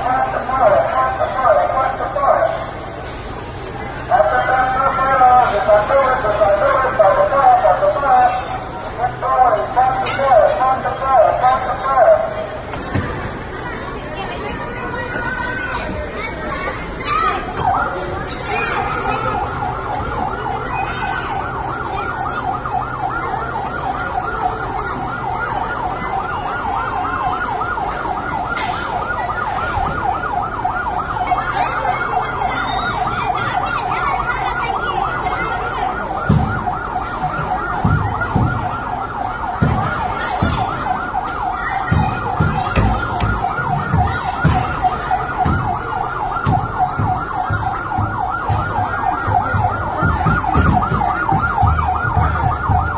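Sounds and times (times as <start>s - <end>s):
fire truck siren warbling: 0.0s - 12.8s, 16.8s - 52.9s.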